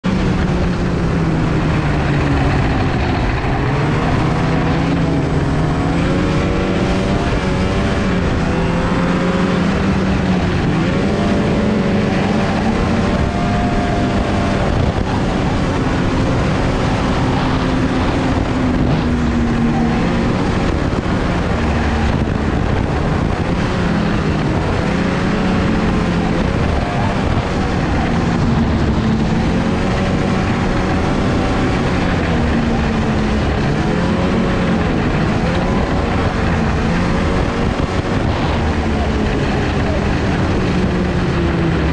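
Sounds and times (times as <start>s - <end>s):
snowmobile engine revving: 0.0s - 41.9s
track and wind rushing: 0.0s - 41.9s.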